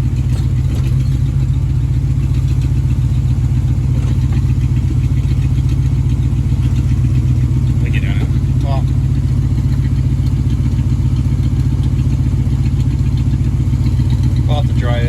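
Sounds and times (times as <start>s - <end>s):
car engine running with low exhaust rumble: 0.0s - 15.0s.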